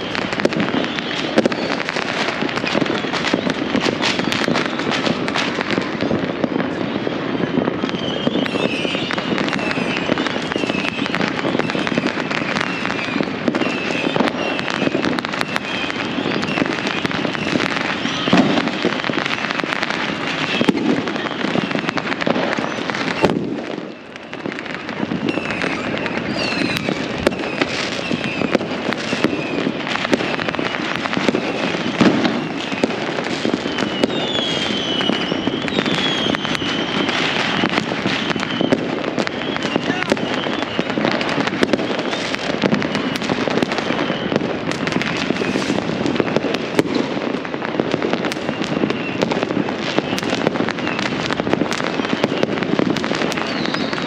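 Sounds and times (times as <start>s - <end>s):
fireworks crackling and banging: 0.0s - 54.0s
whistling rockets: 0.0s - 54.0s.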